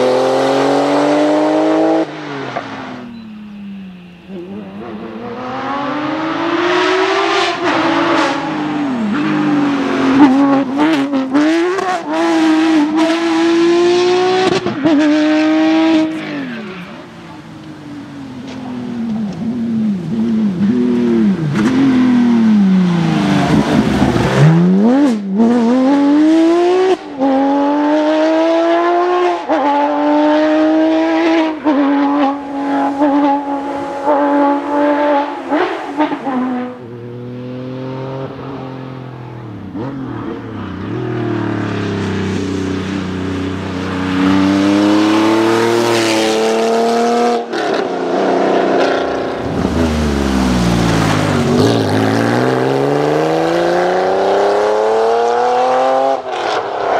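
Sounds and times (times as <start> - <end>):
rally car engines accelerating hard: 0.0 - 3.3, 4.3 - 17.6, 18.4 - 56.9.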